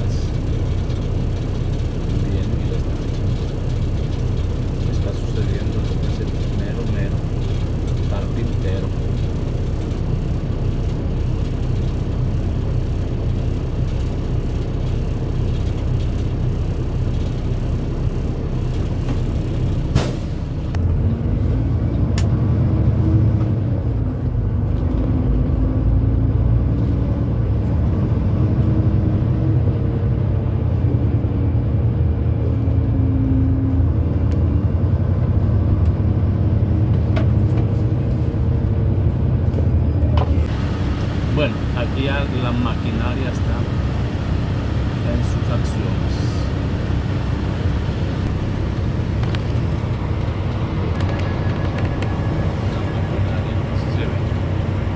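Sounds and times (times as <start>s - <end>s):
road noise: 0.0s - 54.9s
truck engine rumbling: 0.0s - 54.9s.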